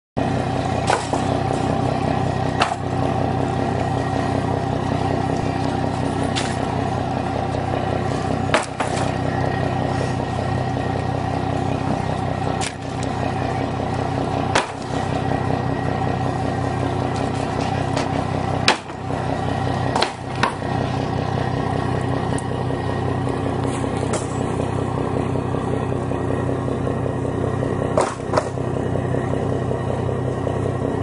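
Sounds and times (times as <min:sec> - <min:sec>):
boat engine idling: 0:00.2 - 0:31.0.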